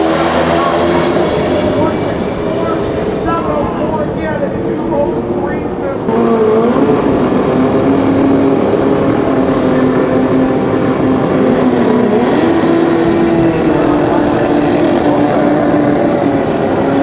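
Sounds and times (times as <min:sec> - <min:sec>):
motorcycle engines running loud: 0:00.0 - 0:17.0.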